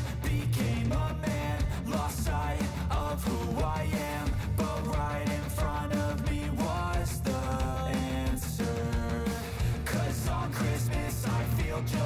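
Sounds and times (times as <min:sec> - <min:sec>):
guitar-led rock song: 0:00.0 - 0:12.0.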